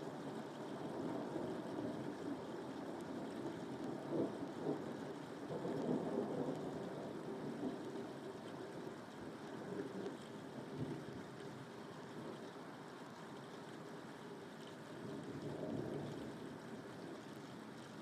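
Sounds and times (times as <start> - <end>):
rain: 0.0 - 18.0.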